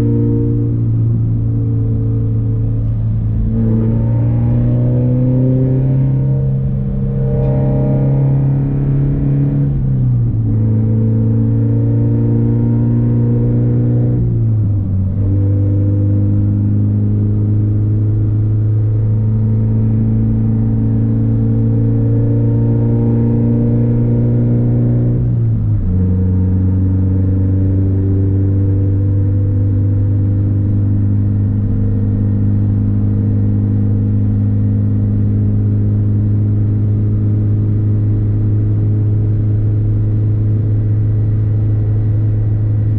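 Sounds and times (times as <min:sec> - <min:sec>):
car engine droning: 0:00.0 - 0:42.9.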